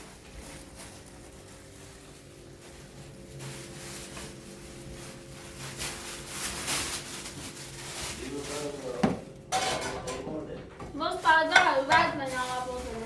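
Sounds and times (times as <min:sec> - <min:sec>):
scuffing and handling noises: 0:00.0 - 0:09.2, 0:10.7 - 0:13.0.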